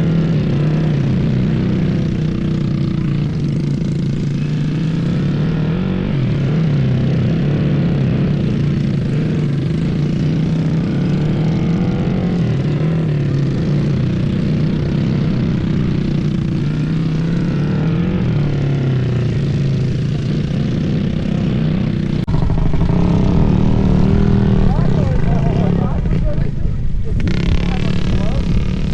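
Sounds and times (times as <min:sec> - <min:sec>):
mini bike engines running: 0:00.0 - 0:28.9.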